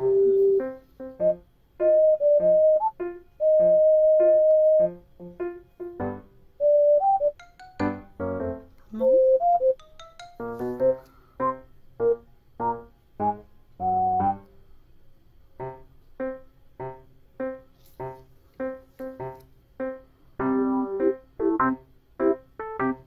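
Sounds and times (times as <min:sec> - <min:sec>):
light keyboard tune: 0:00.0 - 0:14.5, 0:15.6 - 0:23.0.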